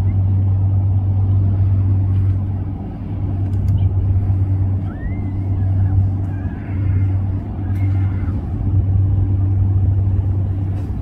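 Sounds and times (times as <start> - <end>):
loud low rumbling drone: 0.0 - 11.0.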